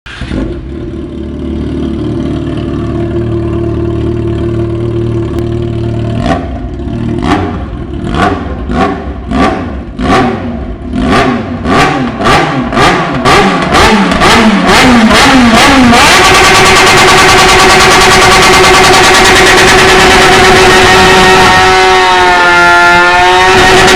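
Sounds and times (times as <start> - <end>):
car engine idling and revving: 0.1 - 23.9.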